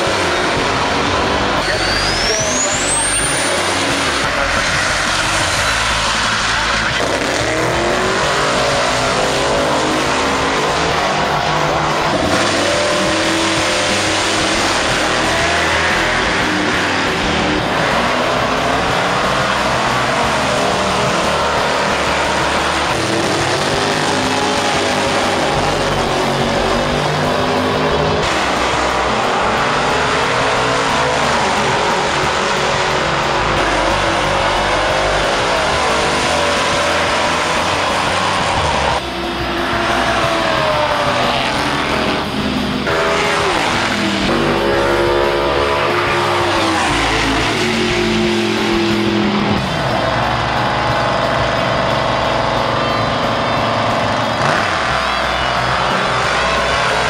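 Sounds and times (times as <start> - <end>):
muscle car engines pulling away: 0.0 - 57.0
racing cars accelerating: 0.0 - 57.0.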